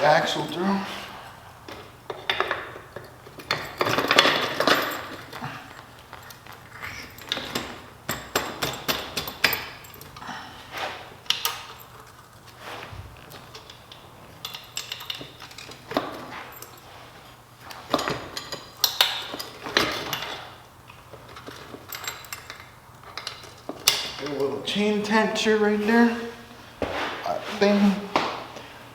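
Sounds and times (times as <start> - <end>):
metal parts and tools clinking: 1.6 - 10.3, 11.1 - 12.6, 13.2 - 26.2.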